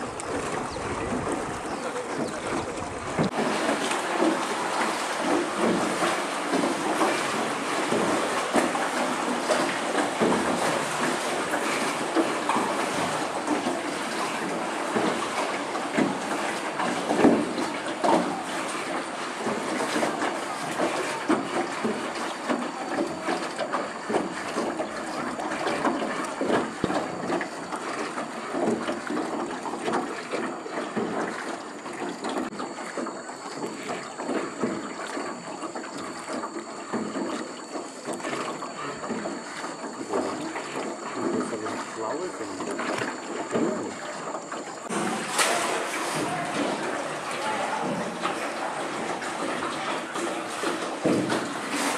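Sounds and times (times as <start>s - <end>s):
water splashing against rowboat: 0.0s - 51.9s.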